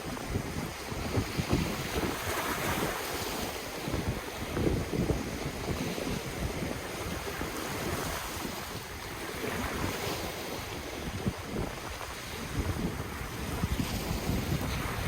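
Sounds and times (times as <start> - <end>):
ocean waves washing ashore: 0.0 - 15.0
wind rumbling on microphone: 0.0 - 15.0.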